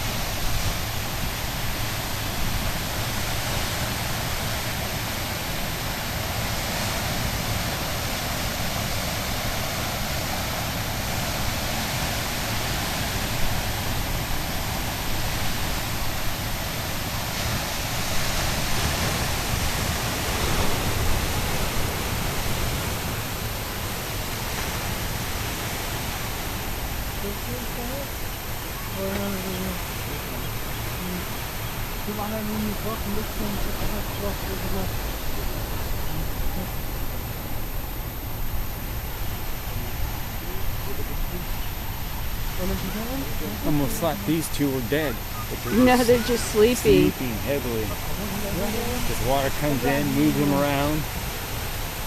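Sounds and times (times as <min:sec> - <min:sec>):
ocean surf rushing: 0:00.0 - 0:52.0
wind rumbling on microphone: 0:00.0 - 0:52.0.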